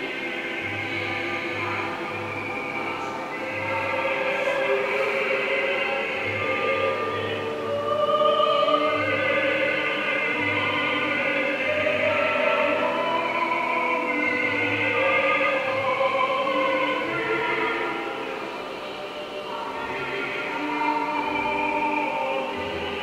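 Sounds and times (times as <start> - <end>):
operatic choral singing: 0.0 - 23.0.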